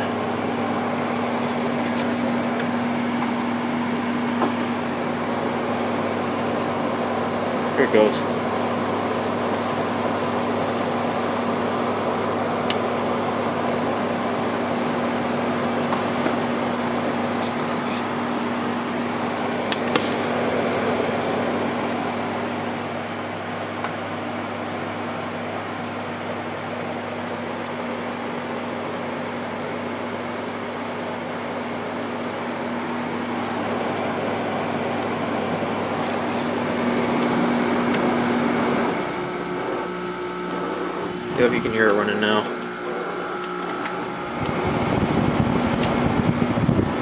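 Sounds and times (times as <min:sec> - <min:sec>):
fan air rushing: 0:00.0 - 0:28.6, 0:29.4 - 0:47.0
air conditioner compressor hum: 0:00.0 - 0:47.0.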